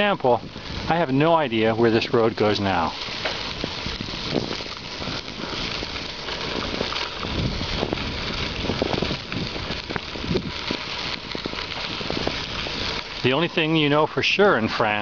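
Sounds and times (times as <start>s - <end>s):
bicycle clicks and rattles: 0.0s - 15.0s
bicycle tyres on rough lane: 0.0s - 15.0s.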